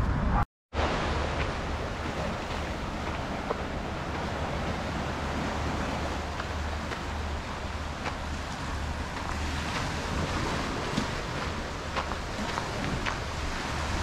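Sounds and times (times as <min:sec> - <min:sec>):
wind on microphone: 0:00.0 - 0:14.0
small waves washing over rocks: 0:00.8 - 0:14.0
faint footsteps on sand: 0:01.2 - 0:13.8.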